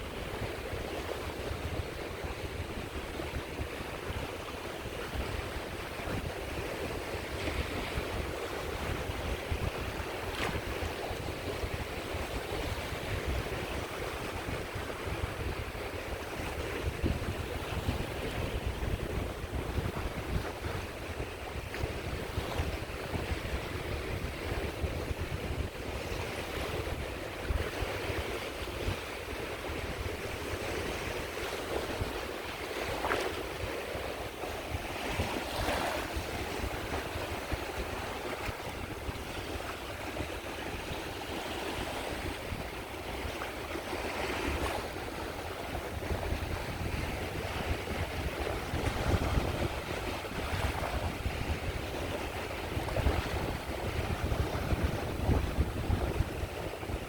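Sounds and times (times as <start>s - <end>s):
sea waves breaking on shore: 0.0s - 57.0s
wind on microphone: 0.0s - 57.0s.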